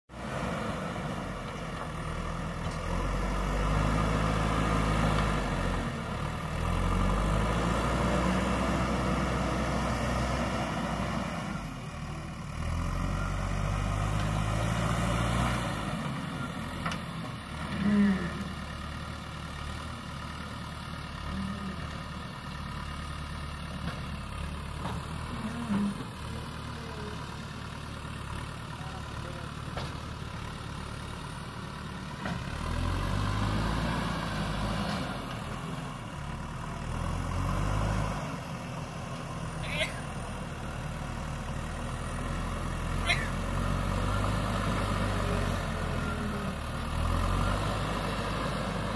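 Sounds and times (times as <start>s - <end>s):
backhoe loader diesel engine: 0.1s - 48.9s.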